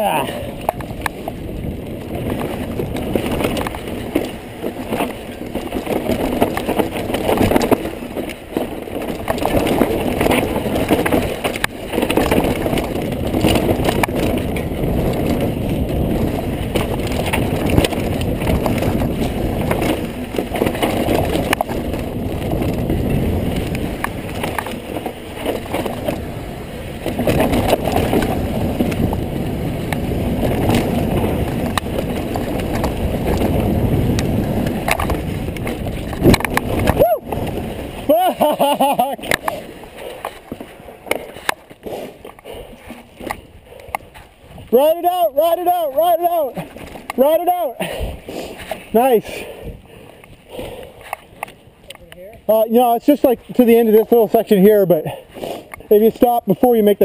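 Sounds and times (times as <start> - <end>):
bike tyres rumbling on dirt: 0.0 - 57.0
wind noise: 0.0 - 57.0.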